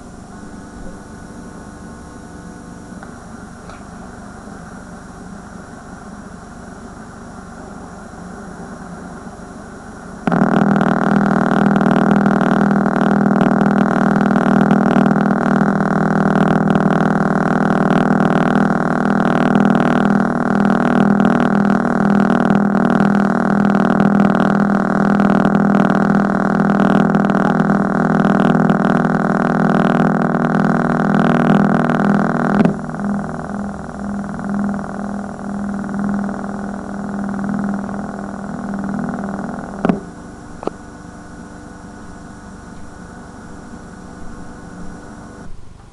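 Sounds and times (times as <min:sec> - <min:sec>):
loud steady buzz: 0:00.0 - 0:45.9
tape hiss and hum: 0:00.0 - 0:45.9.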